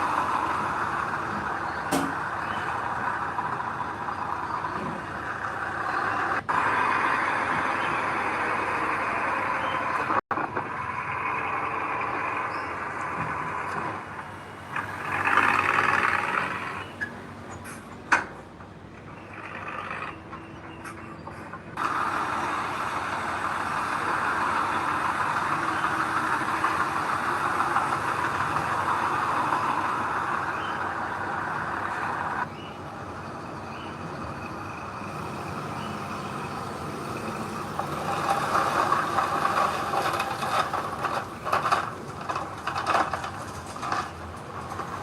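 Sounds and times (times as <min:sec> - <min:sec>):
heavy machinery running: 0:00.0 - 0:17.8, 0:19.1 - 0:45.0.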